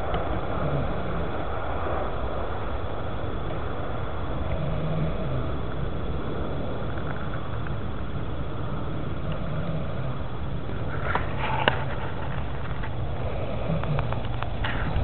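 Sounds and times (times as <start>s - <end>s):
low microphone rumble: 0.0s - 15.0s.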